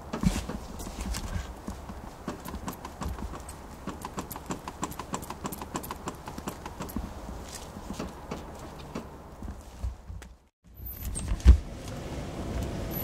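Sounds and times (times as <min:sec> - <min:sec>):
light clicks and knocks: 0:00.0 - 0:10.4
low road rumble: 0:00.0 - 0:13.0.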